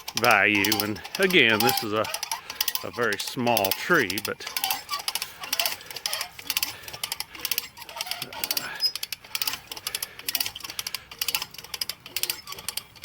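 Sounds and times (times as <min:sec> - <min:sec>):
hand winch ratchet clicking: 0:00.0 - 0:13.0.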